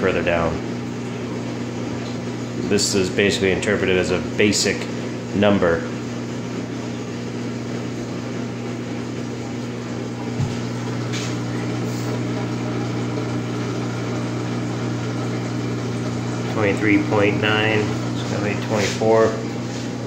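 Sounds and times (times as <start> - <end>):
washer drain pump humming: 0.0 - 20.0.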